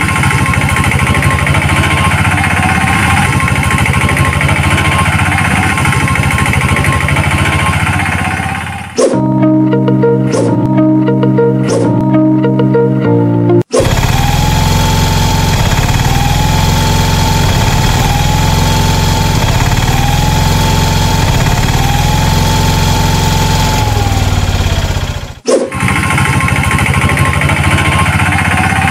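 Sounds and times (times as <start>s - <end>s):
engine running with fast pulse: 0.0s - 12.7s, 13.6s - 28.9s.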